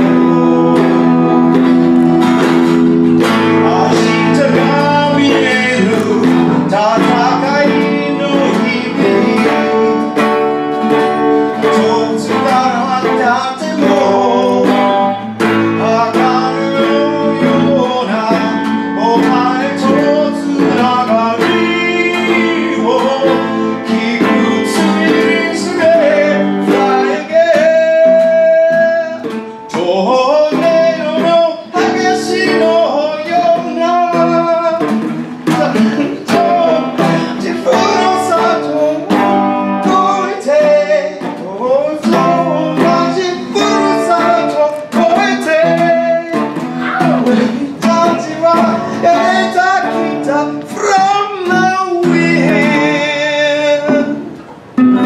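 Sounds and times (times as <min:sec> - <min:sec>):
electric guitar: 0:00.0 - 0:55.0
man singing: 0:00.0 - 0:55.0
strummed acoustic guitar: 0:00.0 - 0:55.0.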